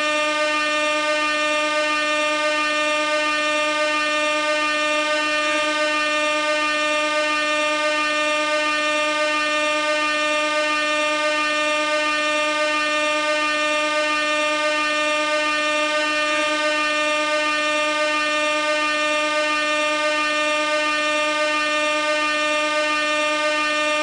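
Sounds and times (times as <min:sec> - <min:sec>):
air horn long note: 0:00.0 - 0:24.0.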